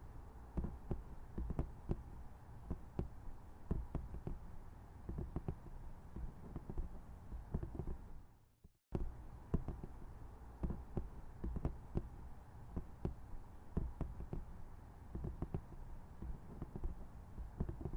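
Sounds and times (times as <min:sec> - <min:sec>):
soft tapping and knocking: 0:00.6 - 0:02.1, 0:02.7 - 0:04.4, 0:05.1 - 0:08.1, 0:09.0 - 0:10.0, 0:10.6 - 0:17.9.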